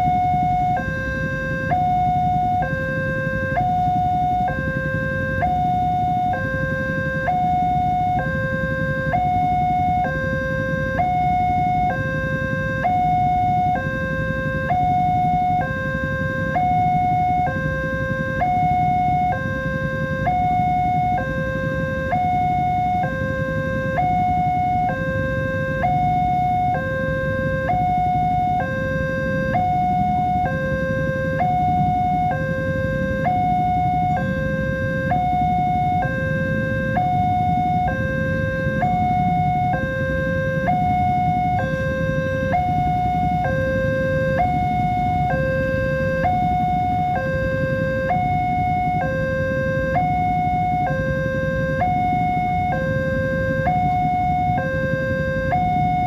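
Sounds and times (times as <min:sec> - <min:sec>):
two-tone level crossing alarm: 0:00.0 - 0:56.0.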